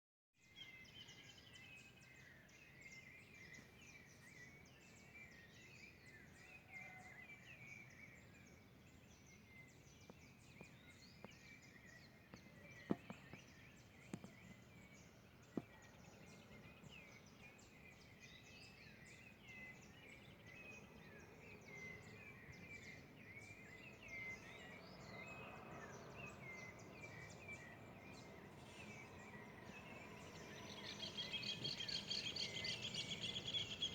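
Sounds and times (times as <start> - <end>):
small birds chirping: 0.4 - 33.9.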